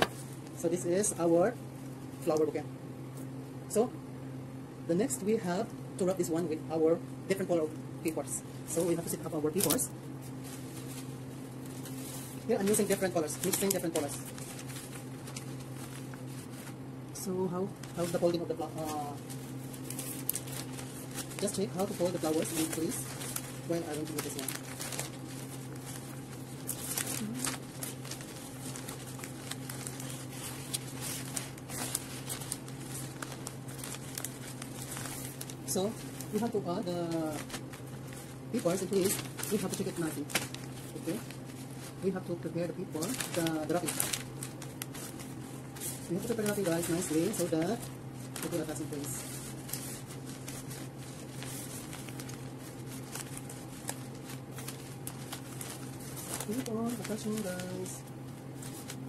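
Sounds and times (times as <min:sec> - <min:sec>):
wrapping paper rustling: 0:00.0 - 0:02.6, 0:07.4 - 0:59.0
steady low hum: 0:00.0 - 0:59.0.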